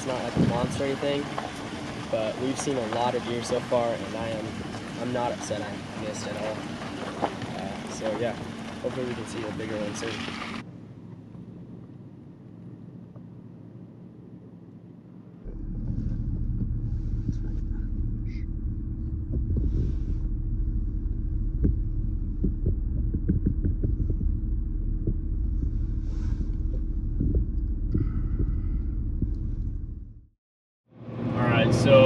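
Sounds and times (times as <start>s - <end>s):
vehicle rumbling on rough road: 0.0s - 30.3s, 30.9s - 32.0s.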